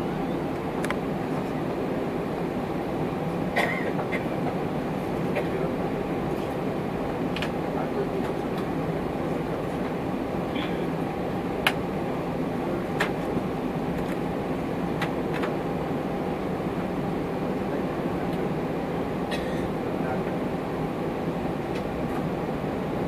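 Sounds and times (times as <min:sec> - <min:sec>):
aircraft cabin low rumble: 0:00.0 - 0:23.0.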